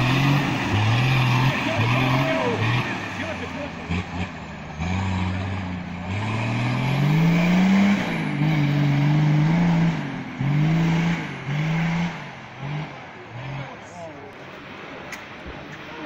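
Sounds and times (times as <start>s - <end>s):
diesel engine revving: 0.0s - 14.9s.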